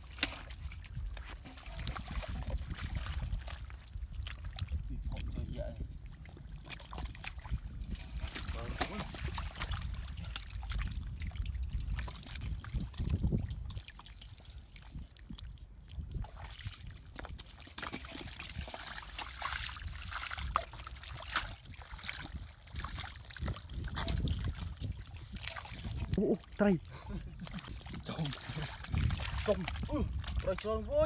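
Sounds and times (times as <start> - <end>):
trickling water: 0.0 - 31.0.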